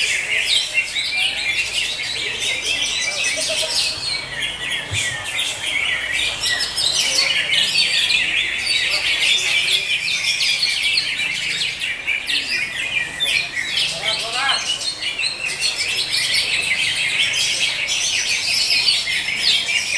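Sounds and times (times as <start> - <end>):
bird singing high chirps and trills: 0.0 - 19.9.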